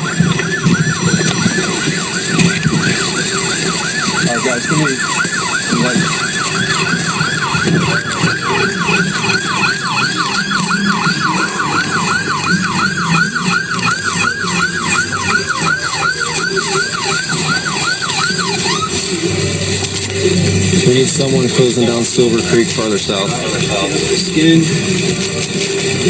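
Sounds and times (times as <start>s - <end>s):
emergency siren yelping: 0.0s - 26.0s.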